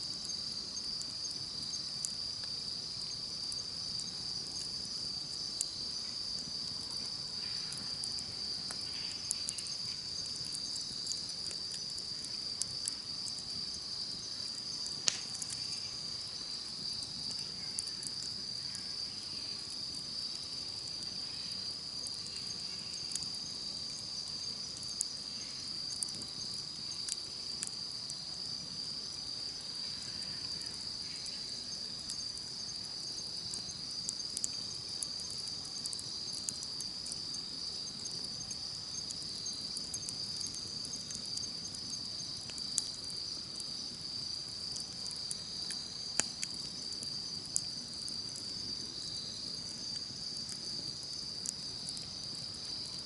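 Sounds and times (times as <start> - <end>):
campfire crackling: 0.0 - 53.0
insects trilling: 0.0 - 53.0.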